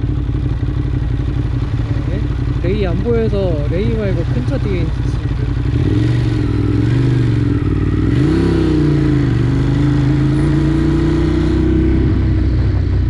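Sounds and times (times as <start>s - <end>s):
low wind rumble: 0.0s - 13.0s
motorcycle engine running: 0.0s - 13.0s.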